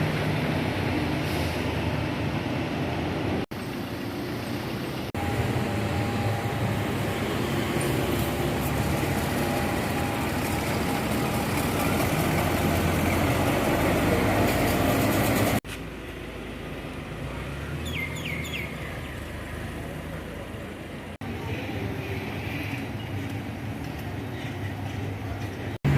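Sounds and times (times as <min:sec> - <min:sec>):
bus engine rumbling: 0:00.0 - 0:25.9
traffic background: 0:00.0 - 0:25.9.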